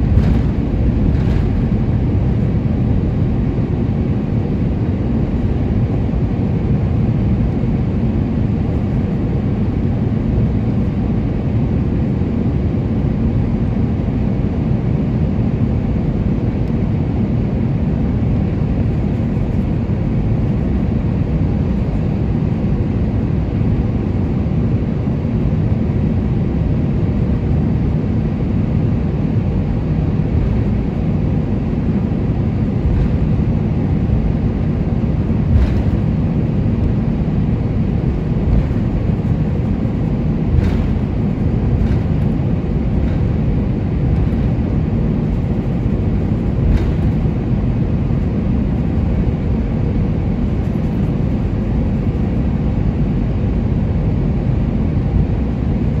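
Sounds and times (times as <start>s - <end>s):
aircraft engines rumbling: 0.0s - 56.0s.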